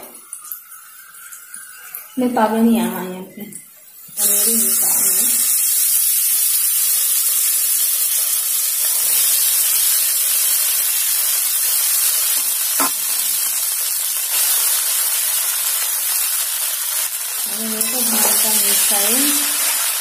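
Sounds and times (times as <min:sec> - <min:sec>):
rice sizzling in hot oil: 0:03.9 - 0:20.0.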